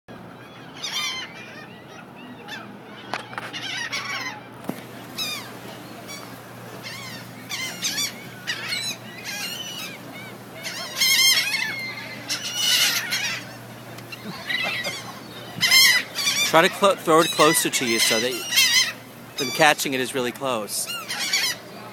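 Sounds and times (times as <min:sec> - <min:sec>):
gulls calling: 0:00.1 - 0:21.9.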